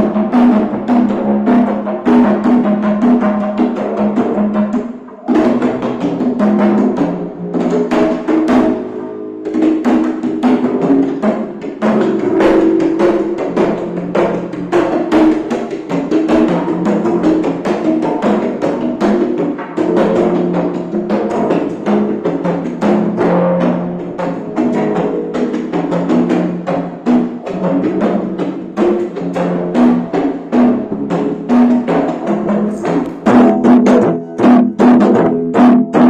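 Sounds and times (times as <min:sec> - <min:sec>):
hand drums playing: 0:00.0 - 0:36.0.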